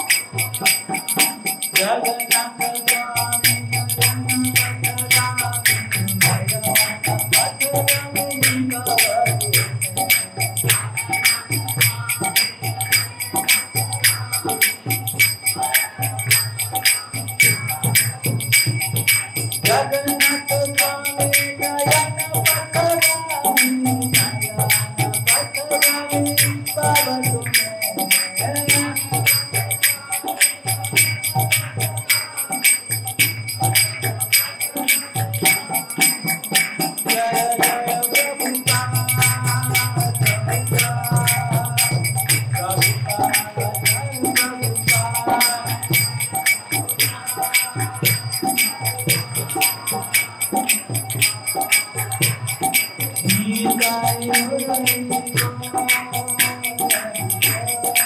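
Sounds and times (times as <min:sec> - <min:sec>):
hand cymbals striking: 0:00.0 - 0:58.0.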